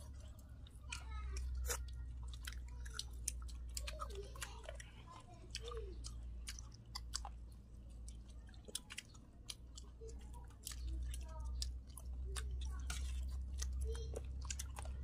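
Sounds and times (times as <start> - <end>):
people chewing food: 0.0 - 15.0
wet clicks and lip smacks: 0.0 - 15.0.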